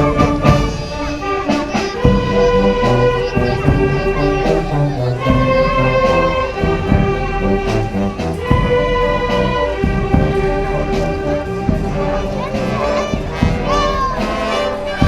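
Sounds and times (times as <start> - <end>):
percussion strokes: 0.0 - 15.0
wind band playing: 0.0 - 15.0.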